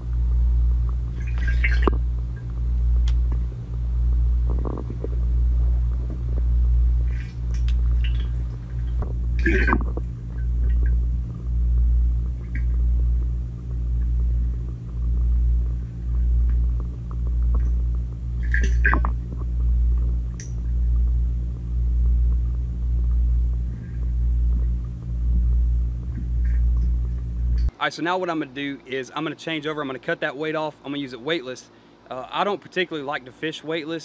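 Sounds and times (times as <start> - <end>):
underwater mechanical hum: 0.0 - 34.0.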